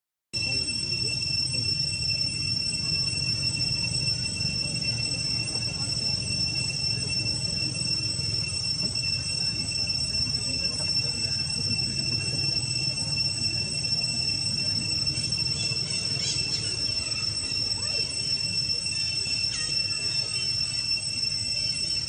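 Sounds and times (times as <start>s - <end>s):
insects droning: 0.4s - 22.0s.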